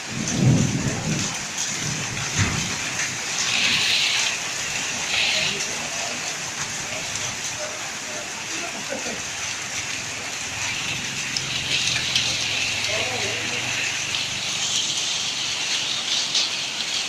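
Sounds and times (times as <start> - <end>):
heavy rain and hail: 0.0 - 17.0.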